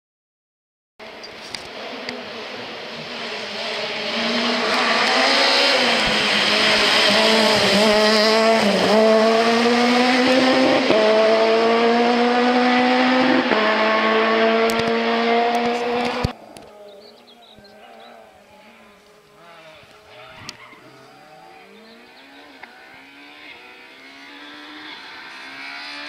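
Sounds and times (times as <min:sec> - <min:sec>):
rally car engine at high revs: 0:01.0 - 0:16.4, 0:19.4 - 0:26.0.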